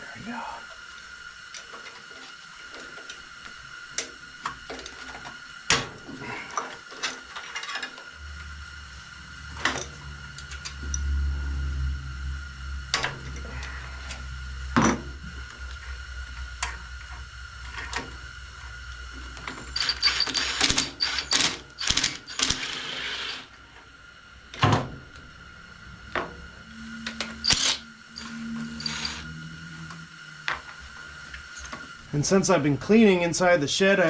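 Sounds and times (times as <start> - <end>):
steady background hum: 0.0 - 34.0.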